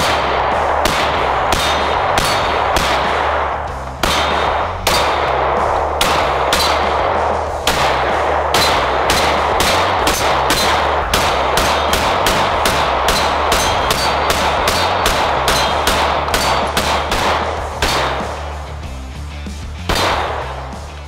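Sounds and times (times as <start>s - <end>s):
pistol firing rapid shots: 0.0s - 18.6s, 19.9s - 20.8s.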